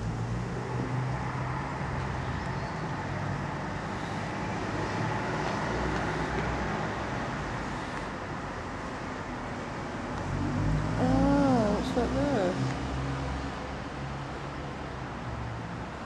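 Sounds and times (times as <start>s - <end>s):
street traffic hiss and rumble: 0.0s - 16.0s.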